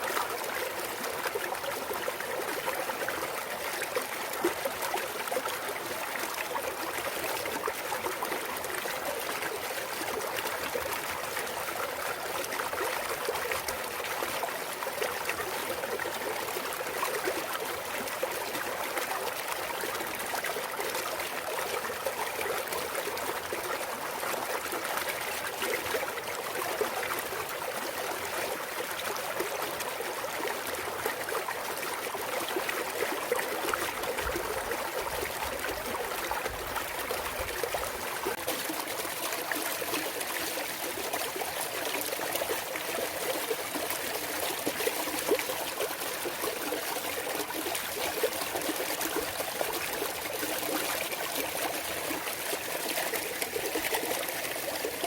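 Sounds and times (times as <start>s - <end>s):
stream water flowing over rocks: 0.0s - 55.0s.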